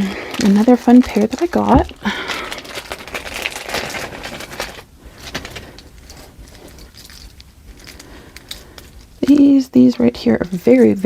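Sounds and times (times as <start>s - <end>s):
packaging rustling: 0.0s - 9.2s.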